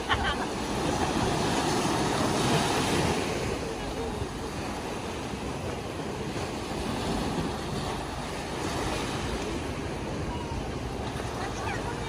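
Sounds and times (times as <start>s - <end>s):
small waves washing on beach: 0.0s - 12.0s.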